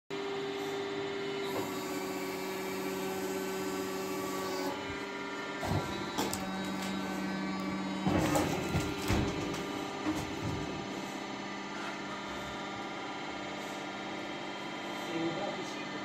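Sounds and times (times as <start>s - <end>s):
sawmill motor hum: 0.2s - 16.0s.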